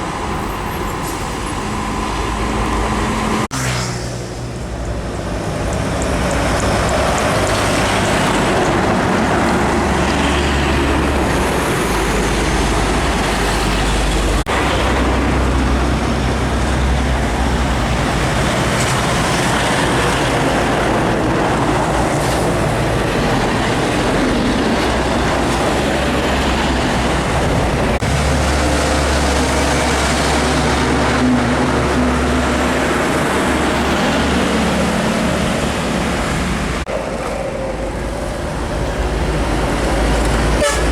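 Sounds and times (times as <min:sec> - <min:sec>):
traffic passing on road: 0:00.0 - 0:40.9
deep truck engine rumble: 0:04.2 - 0:40.9.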